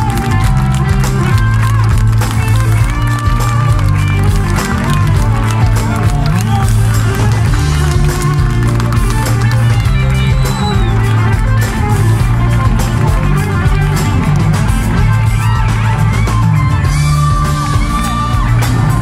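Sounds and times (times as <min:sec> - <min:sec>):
drums: 0:00.0 - 0:19.0
electric bass guitar: 0:00.0 - 0:19.0
guitar: 0:00.0 - 0:19.0
keyboards: 0:00.0 - 0:19.0.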